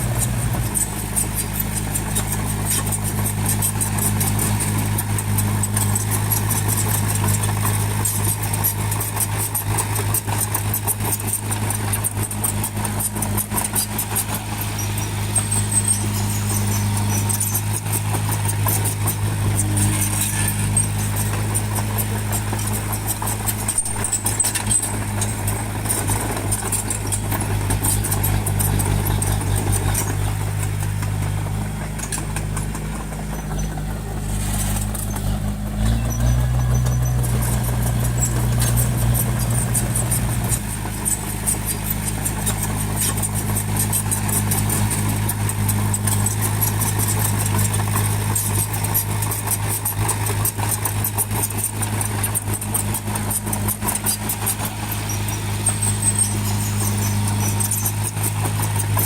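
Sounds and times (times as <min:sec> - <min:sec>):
bulldozer diesel engine: 0:00.0 - 0:59.0
fast clatter: 0:00.0 - 0:59.0.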